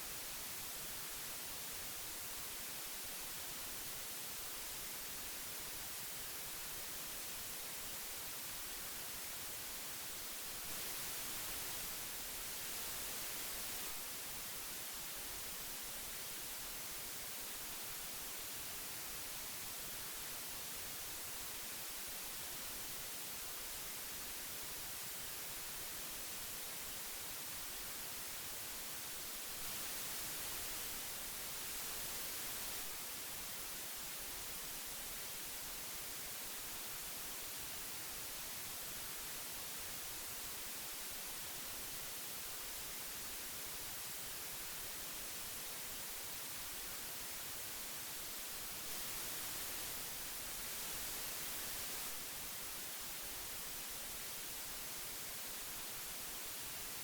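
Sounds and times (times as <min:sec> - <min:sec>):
tape hiss: 0:00.0 - 0:57.0.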